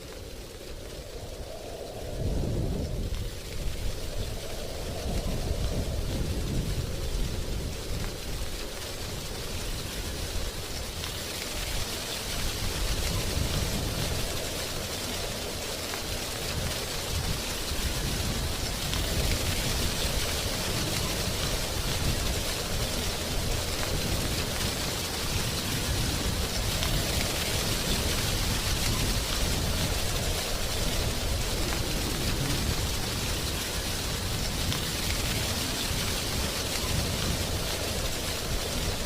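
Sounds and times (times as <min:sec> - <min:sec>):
leaves rustling in wind: 0:00.0 - 0:39.0
low wind rumble: 0:00.0 - 0:39.0.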